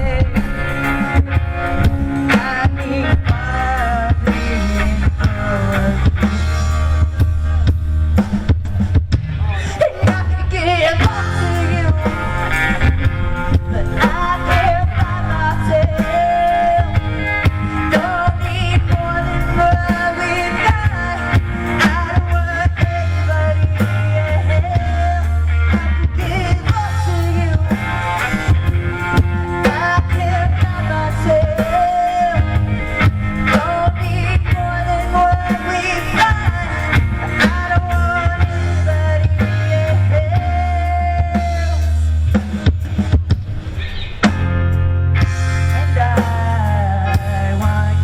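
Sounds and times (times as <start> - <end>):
person singing: 0.0 - 7.8, 9.3 - 42.1, 45.7 - 48.0
rock band playing: 0.0 - 48.0.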